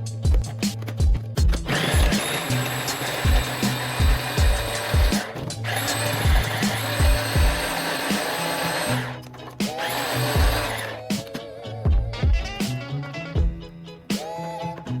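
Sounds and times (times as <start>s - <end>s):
music with low thumping beat: 0.0s - 14.2s.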